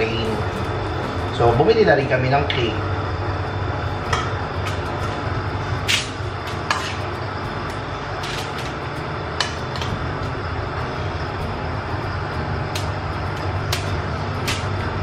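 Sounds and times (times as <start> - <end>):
kitchen room hum: 0.0 - 15.0.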